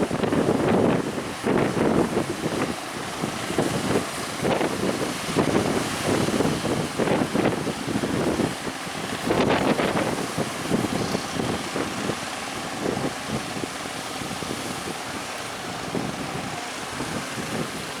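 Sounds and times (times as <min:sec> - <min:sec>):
boat engine running: 0:00.0 - 0:18.0
sea noise: 0:00.0 - 0:18.0
wind buffeting microphone: 0:00.0 - 0:18.0.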